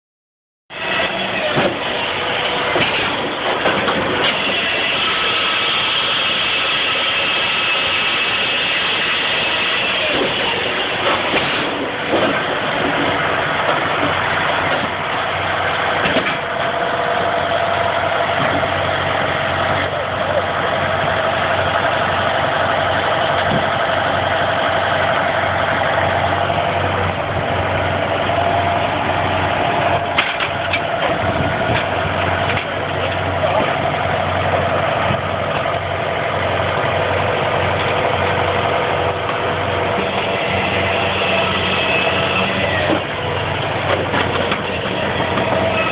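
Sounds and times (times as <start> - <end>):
firewood saw-splitter engine running: 0.7 - 45.9.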